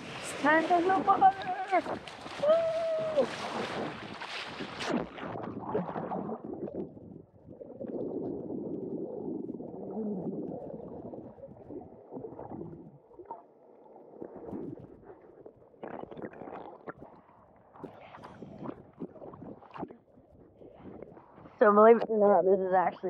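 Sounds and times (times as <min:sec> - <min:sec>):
water splashing: 0:00.0 - 0:22.0
muffled underwater gurgling: 0:00.0 - 0:23.0.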